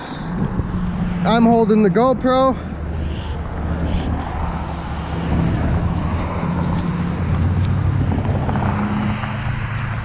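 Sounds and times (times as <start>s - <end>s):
traffic engine drone: 0.0s - 10.0s.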